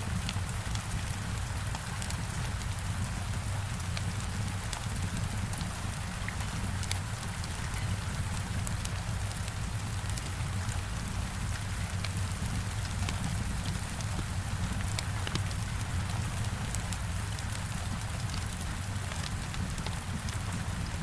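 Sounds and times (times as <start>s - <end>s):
heavy rain falling: 0.1s - 21.0s
wood fire crackling: 0.3s - 21.0s.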